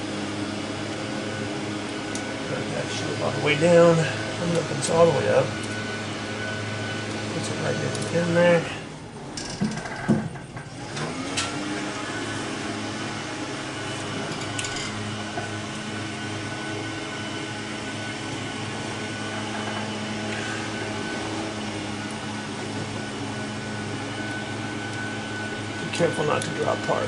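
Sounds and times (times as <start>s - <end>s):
small motor humming: 0.0s - 27.0s.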